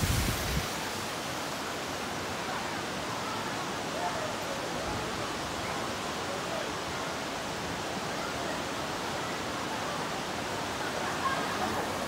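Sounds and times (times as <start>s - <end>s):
fast-flowing stream: 0.0s - 12.0s.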